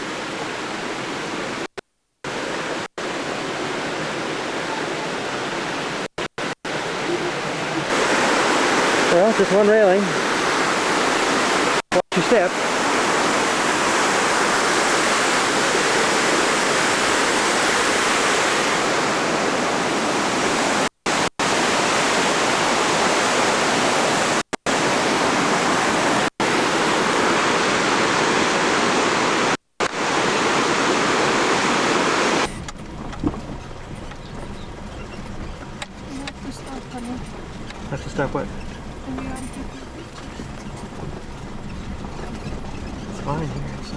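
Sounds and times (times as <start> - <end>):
rushing water roar: 0.0 - 43.9.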